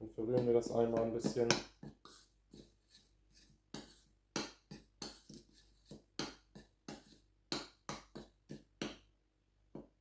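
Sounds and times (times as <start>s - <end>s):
utensil stirring in a mixing bowl: 0.1s - 8.9s.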